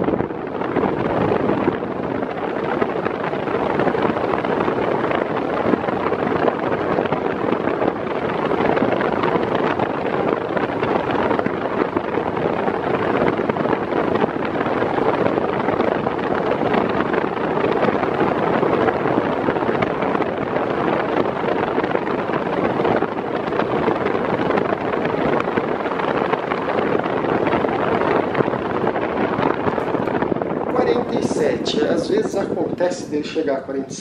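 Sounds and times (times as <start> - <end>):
table fan airflow rushing: 0.0 - 34.0.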